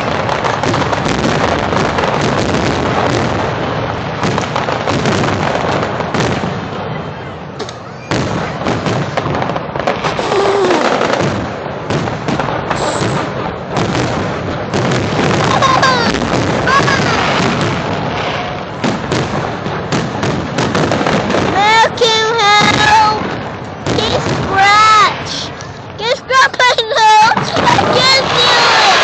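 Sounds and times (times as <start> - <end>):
fireworks booming and crackling: 0.0 - 29.0.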